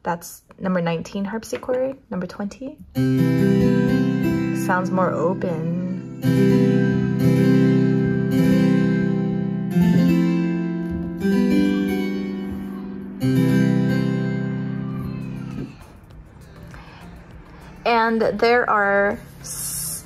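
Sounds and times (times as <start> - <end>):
harpsichord chords: 2.9 - 19.4.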